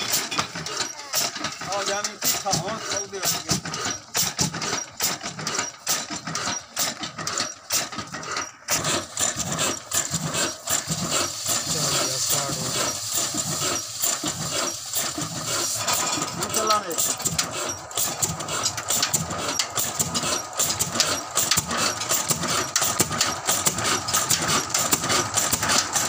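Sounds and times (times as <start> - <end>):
diesel engine clattering: 0.0 - 26.0.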